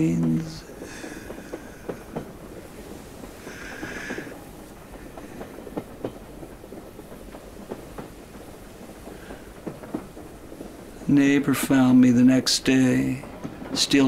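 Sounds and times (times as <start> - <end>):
train carriage rumble: 0.0 - 14.0
wheels clacking over rail joints: 0.0 - 14.0.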